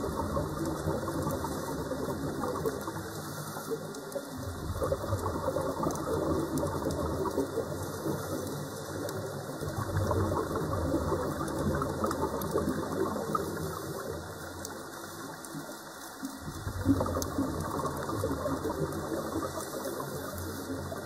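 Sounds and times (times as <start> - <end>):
exhaled air bubbling underwater: 0.0 - 21.0.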